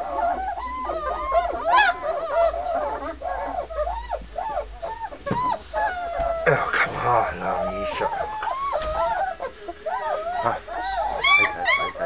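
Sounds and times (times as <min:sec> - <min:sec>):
puppy whining and yelping: 0:00.0 - 0:12.0.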